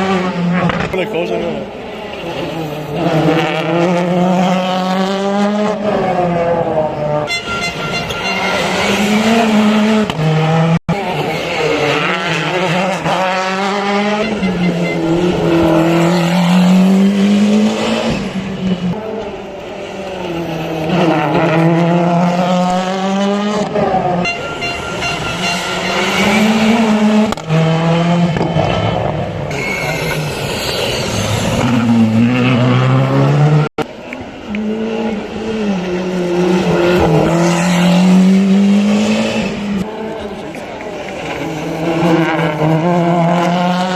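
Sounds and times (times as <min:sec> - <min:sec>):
rally car engines revving: 0:00.0 - 0:43.9.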